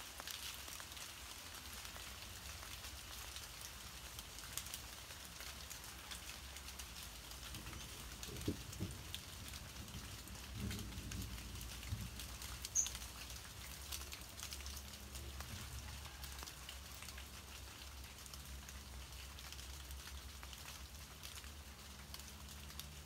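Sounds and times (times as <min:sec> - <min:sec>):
rain pattering on leaves: 0:00.0 - 0:23.0.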